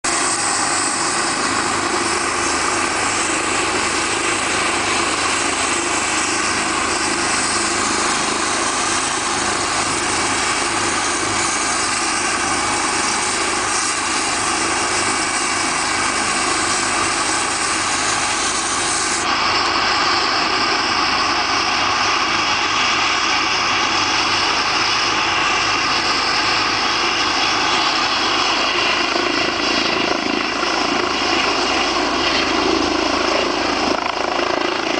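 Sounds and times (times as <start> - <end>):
helicopter rotor rushing: 0.0 - 34.9
turbine whine: 0.1 - 34.9.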